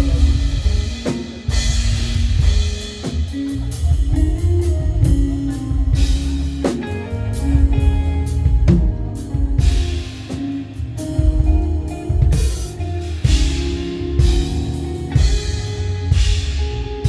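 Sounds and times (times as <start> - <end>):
live band playing praise music: 0.0 - 17.0.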